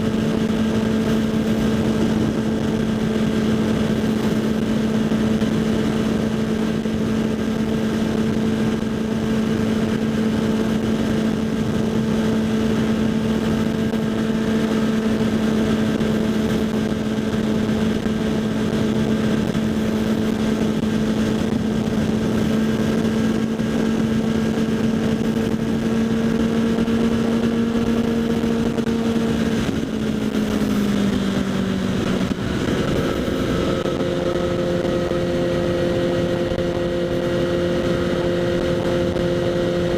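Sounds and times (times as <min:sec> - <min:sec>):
motorcycle engine riding: 0:00.0 - 0:39.9
wind noise: 0:00.0 - 0:39.9.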